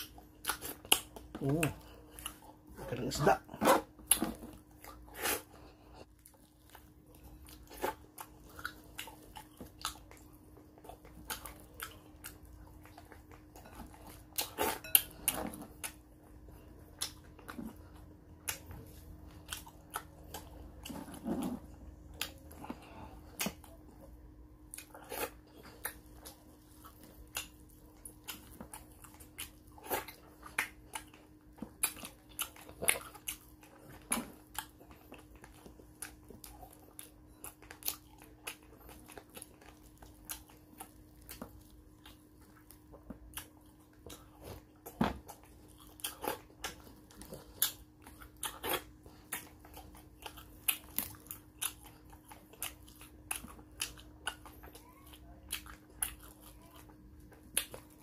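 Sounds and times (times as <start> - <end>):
person chewing and lip-smacking: 0.0 - 58.0.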